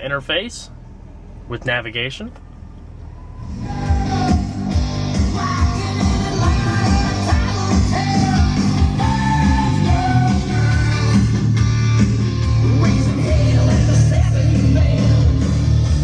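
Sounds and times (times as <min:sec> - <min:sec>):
rock guitar playing: 0:02.6 - 0:15.9.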